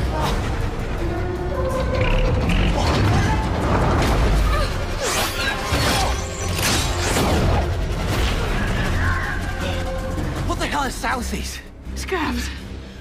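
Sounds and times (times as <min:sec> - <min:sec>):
dramatic film score: 0:00.0 - 0:13.0.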